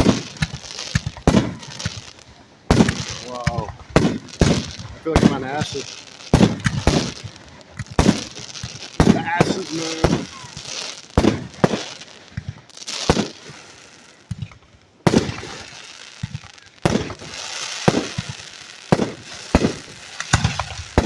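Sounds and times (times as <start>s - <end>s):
firework crackling fizz: 0.0s - 21.0s
firework shells bursting: 0.0s - 21.0s.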